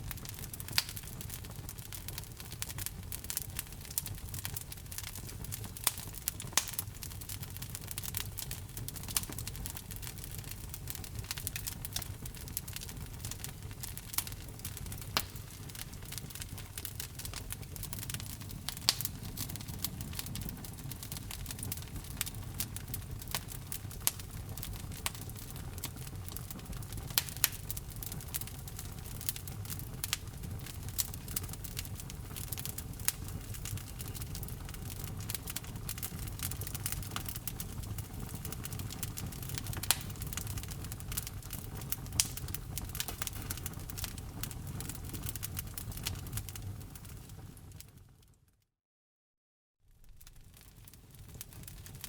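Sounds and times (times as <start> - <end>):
low rumble of flames: 0.0 - 48.2, 49.9 - 52.0
wood fire crackling: 0.0 - 48.2, 49.9 - 52.0.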